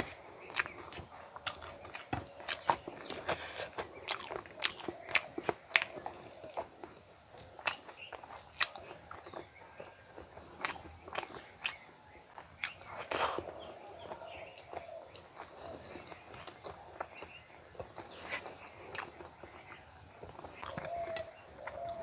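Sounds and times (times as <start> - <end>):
wet chewing with lip smacks: 0.4 - 22.0.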